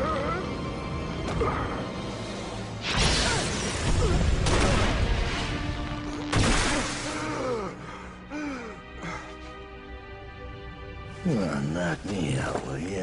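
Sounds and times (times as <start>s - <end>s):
dramatic score: 0.0s - 13.0s.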